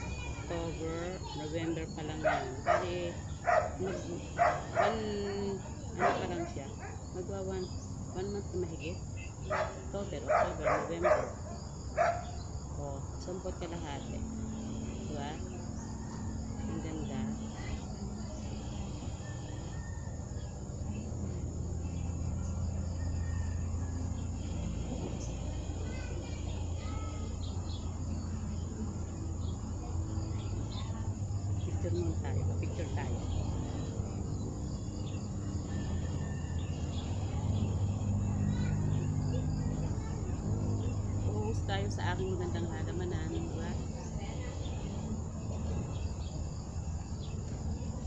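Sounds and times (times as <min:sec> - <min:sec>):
insects chirring: 0:00.0 - 0:48.0
low steady drone: 0:00.0 - 0:48.0
steady low hum: 0:00.0 - 0:48.0.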